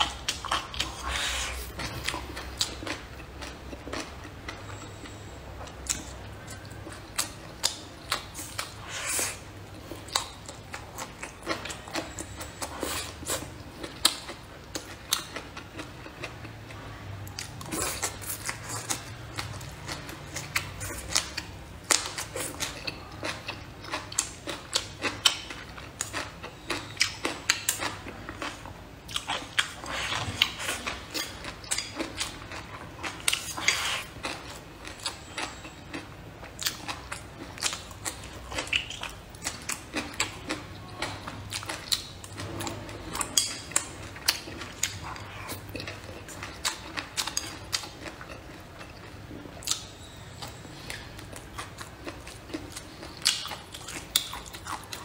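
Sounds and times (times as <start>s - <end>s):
person chewing and crunching food: 0.0s - 55.0s.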